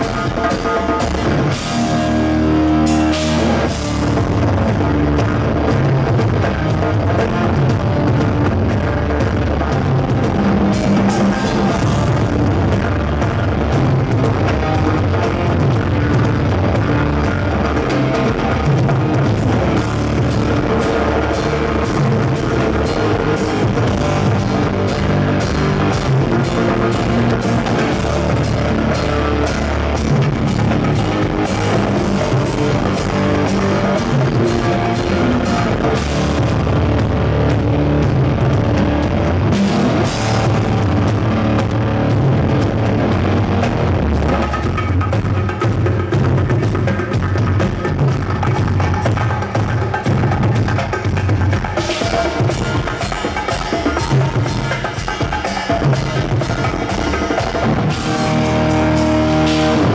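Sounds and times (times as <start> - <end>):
rock drum kit playing: 0.0 - 59.9.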